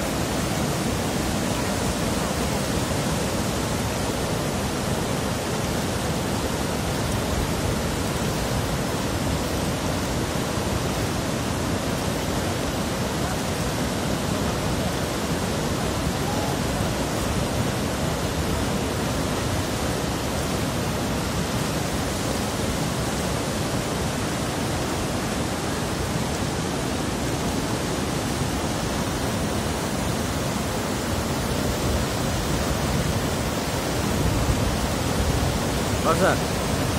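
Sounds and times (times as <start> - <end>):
stream rushing over boulders: 0.0 - 36.9.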